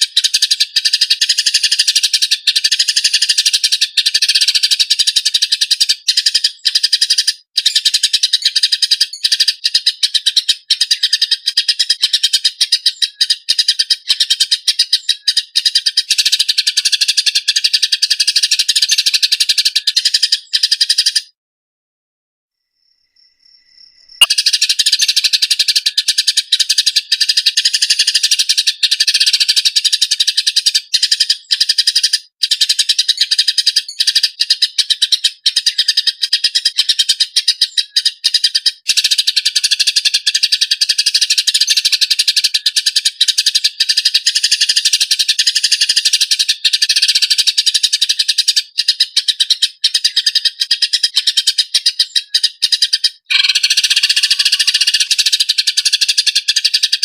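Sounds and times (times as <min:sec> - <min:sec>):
sparrows chirping harshly: 0:00.0 - 0:21.4, 0:23.9 - 0:57.0.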